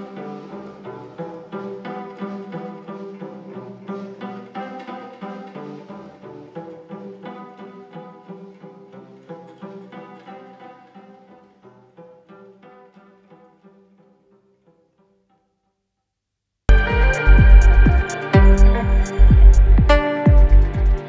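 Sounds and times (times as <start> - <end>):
plucked string instrumental music: 0.0 - 15.2, 16.7 - 21.0.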